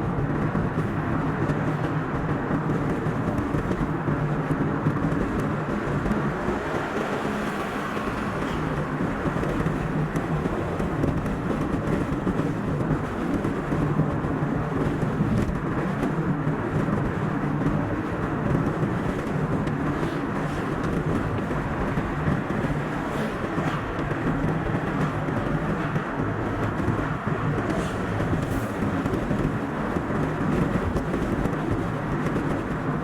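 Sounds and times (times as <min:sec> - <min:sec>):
car tyre and engine noise: 0:00.0 - 0:33.0.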